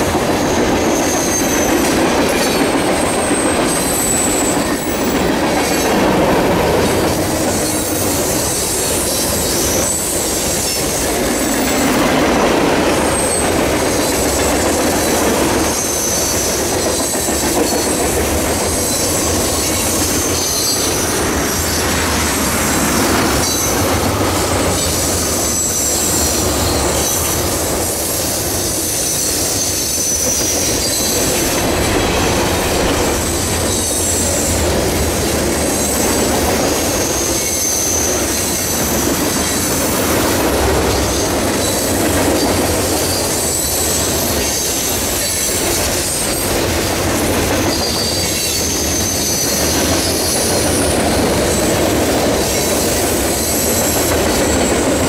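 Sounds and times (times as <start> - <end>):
train cars rumbling past: 0.0 - 55.0
wheels squealing on rails: 0.0 - 55.0.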